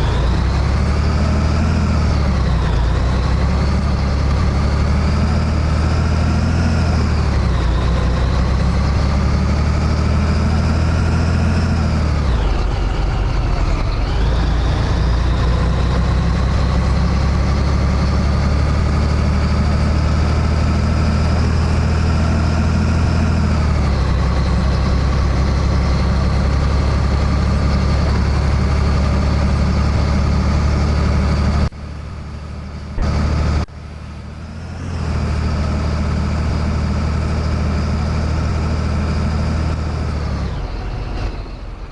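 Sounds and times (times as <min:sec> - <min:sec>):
truck diesel engine pulling: 0:00.0 - 0:41.9.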